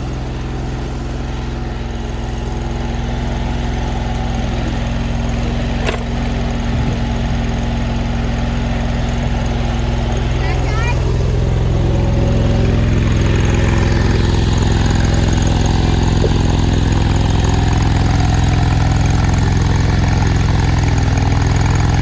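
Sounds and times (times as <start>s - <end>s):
skid steer engine running: 0.0s - 22.0s.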